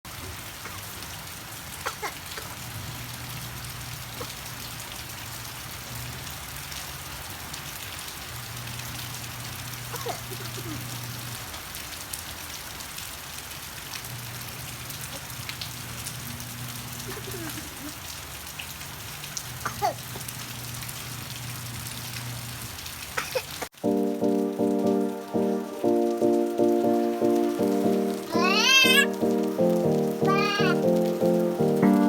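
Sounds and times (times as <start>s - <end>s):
raindrops ticking on surfaces: 0.1s - 32.0s
steady rain falling: 0.1s - 32.0s.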